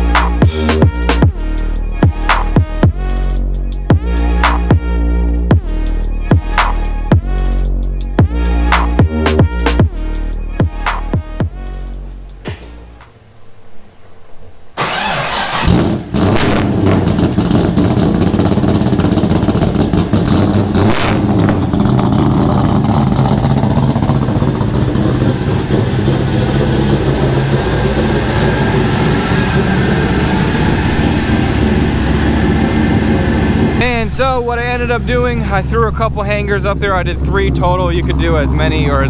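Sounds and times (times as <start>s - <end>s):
car engine starting and idling: 0.0s - 39.0s.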